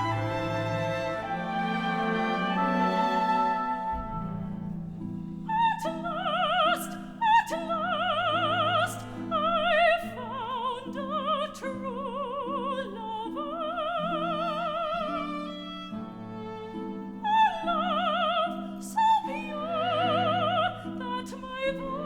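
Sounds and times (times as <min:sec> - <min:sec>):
soprano singing: 0:00.0 - 0:22.0.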